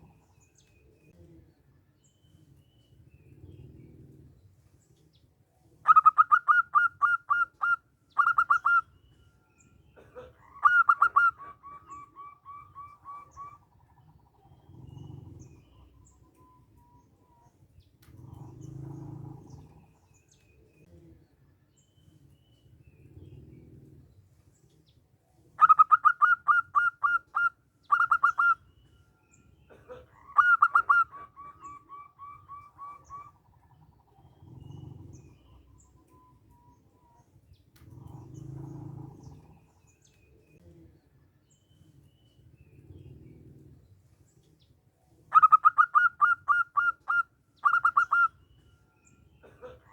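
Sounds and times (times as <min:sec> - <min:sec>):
dove singing: 0:05.8 - 0:20.9, 0:21.7 - 0:49.9.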